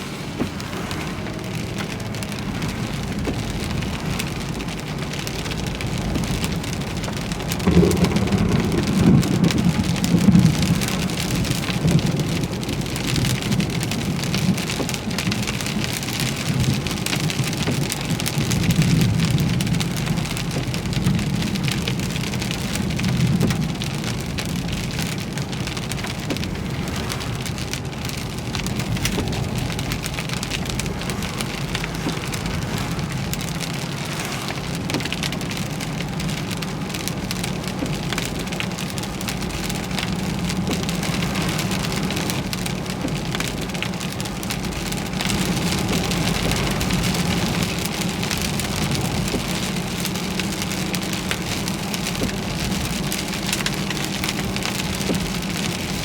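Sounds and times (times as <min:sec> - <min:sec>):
heavy rain pelting: 0:00.0 - 0:56.0
thunder rumbling: 0:00.0 - 0:56.0.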